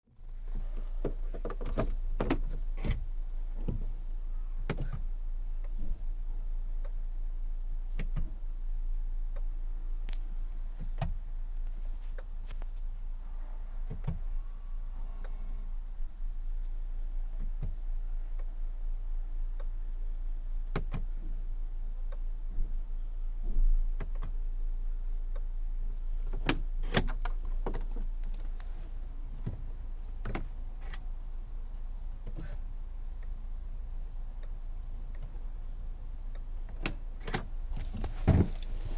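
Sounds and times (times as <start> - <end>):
steady low hum: 0.1 - 38.9.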